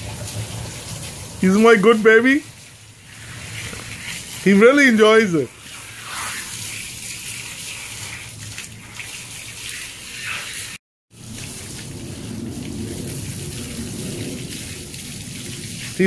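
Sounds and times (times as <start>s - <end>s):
garden hose water splashing: 0.0s - 16.0s.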